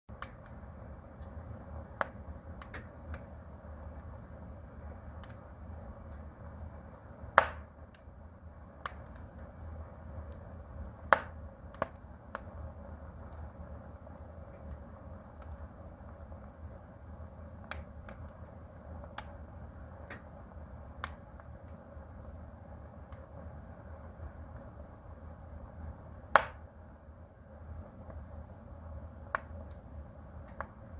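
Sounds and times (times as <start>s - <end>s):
wood fire crackling and popping: 0.1s - 30.9s.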